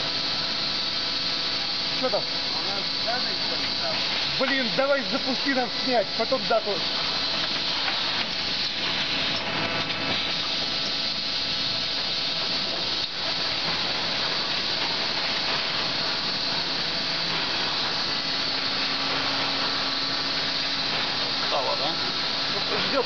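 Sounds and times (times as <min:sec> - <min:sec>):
constant machine hum: 0:00.0 - 0:23.0
steady machine hiss: 0:00.0 - 0:23.0.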